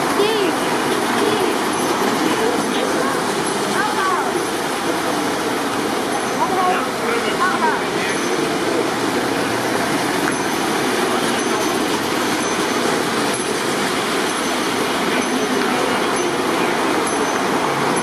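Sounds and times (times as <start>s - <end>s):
model trains running: 0.0s - 18.0s.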